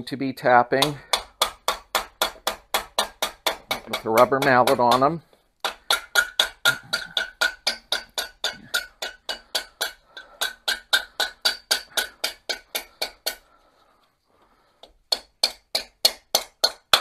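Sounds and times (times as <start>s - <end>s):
rubber mallet tapping on metal: 0.8s - 13.4s, 14.8s - 17.0s.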